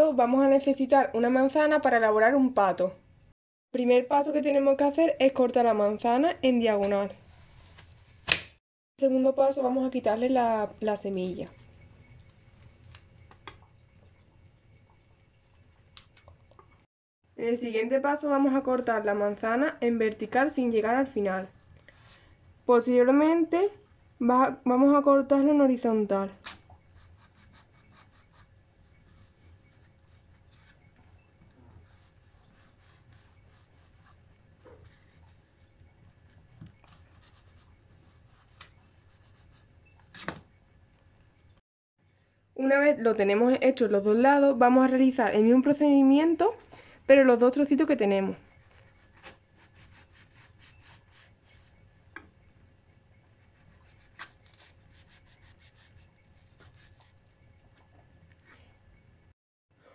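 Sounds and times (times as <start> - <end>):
faint room hum: 9.0 - 59.9.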